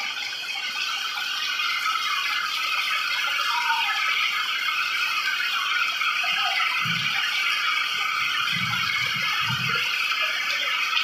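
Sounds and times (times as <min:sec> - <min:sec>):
heavy rain on ground and leaves: 0:00.0 - 0:11.0.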